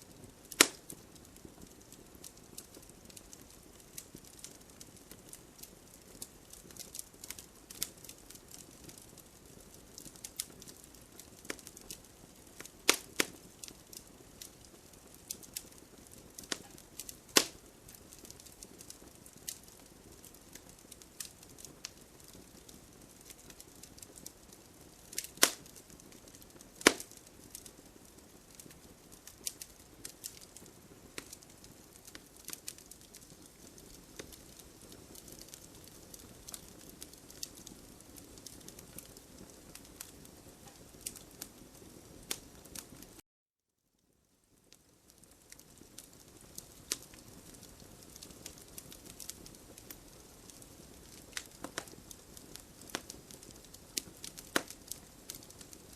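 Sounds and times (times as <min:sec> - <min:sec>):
fire crackling in fireplace: 0:00.0 - 0:43.2, 0:44.0 - 0:55.9.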